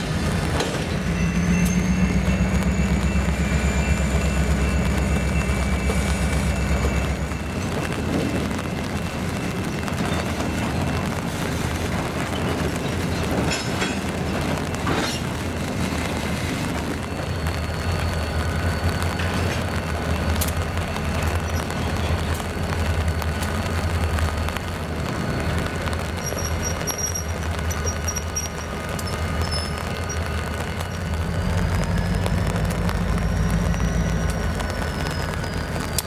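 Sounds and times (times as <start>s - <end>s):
clicks of train cars: 0.0s - 36.0s
locomotive engine drone: 0.0s - 36.0s
rumble of rolling train cars: 0.0s - 36.0s.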